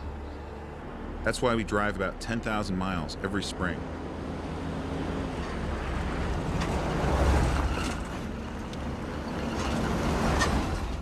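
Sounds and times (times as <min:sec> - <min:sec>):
road and wind rumble: 0:00.0 - 0:11.0.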